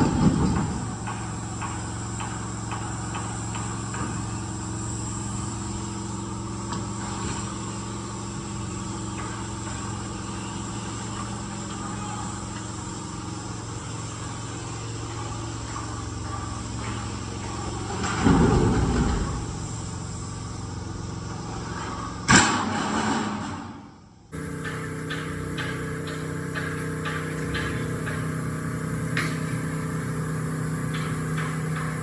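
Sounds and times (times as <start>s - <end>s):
steady engine hum: 0.0s - 22.6s, 23.8s - 32.0s.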